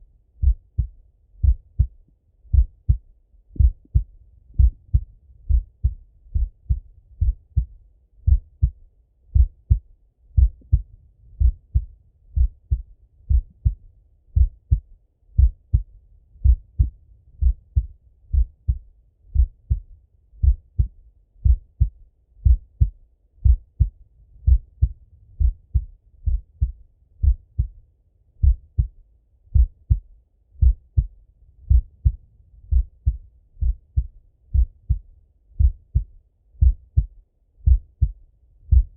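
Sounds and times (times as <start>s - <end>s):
heartbeat through stethoscope: 0.3s - 27.8s, 28.4s - 38.9s.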